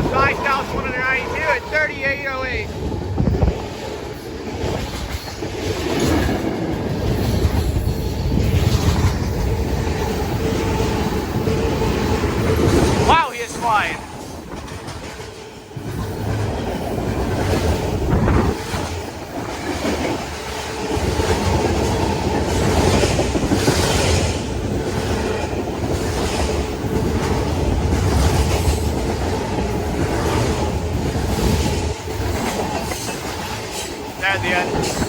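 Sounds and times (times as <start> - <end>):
freight train rumble: 0.0 - 35.0
train wheels clattering over rails: 0.0 - 35.0.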